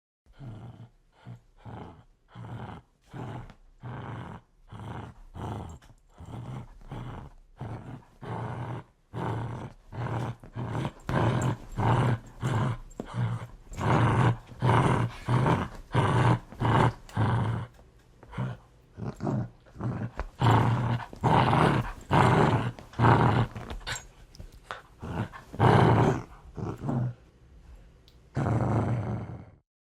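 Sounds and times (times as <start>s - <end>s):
large dog growling: 0.3s - 27.2s, 28.4s - 29.6s.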